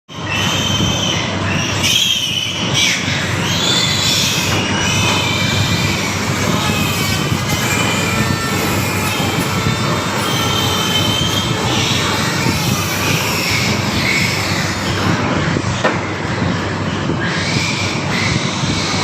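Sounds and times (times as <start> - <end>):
piglets squealing: 0.1 - 19.0.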